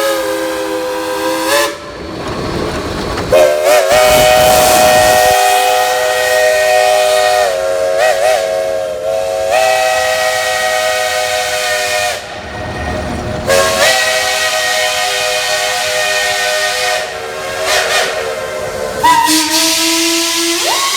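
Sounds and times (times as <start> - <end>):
steam locomotive chime whistle: 0.0 - 2.0, 3.3 - 20.9
steam hiss: 0.0 - 2.1, 3.3 - 20.9.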